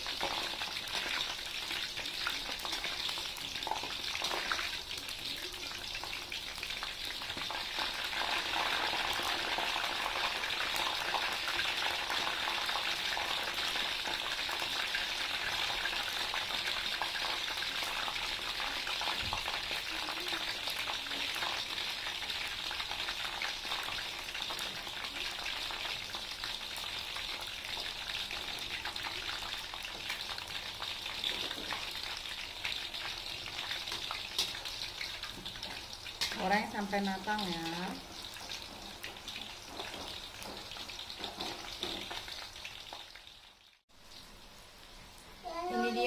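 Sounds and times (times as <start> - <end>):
eggplant deep-frying in oil: 0.0 - 46.0.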